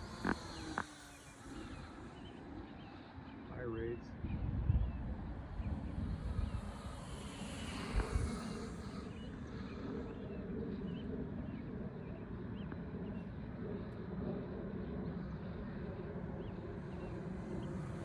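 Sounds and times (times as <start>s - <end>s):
distant rc plane motor: 0.0s - 18.0s
wind rumble on microphone: 0.0s - 18.0s.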